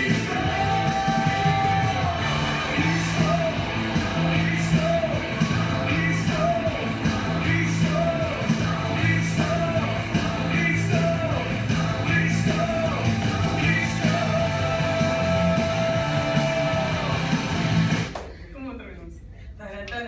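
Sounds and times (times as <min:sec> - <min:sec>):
person singing: 0:00.0 - 0:17.4
rock worship song: 0:00.0 - 0:18.1.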